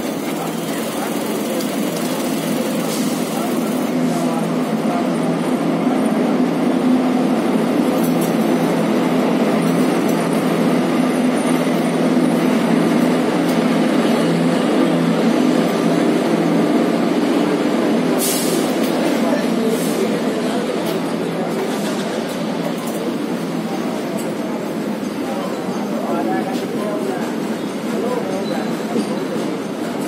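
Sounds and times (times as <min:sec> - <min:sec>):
train coaches rumbling on track: 0:00.0 - 0:30.0.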